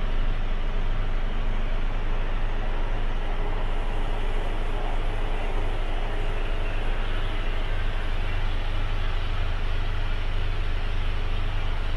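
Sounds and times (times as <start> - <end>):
diesel engine idling: 0.0 - 11.8.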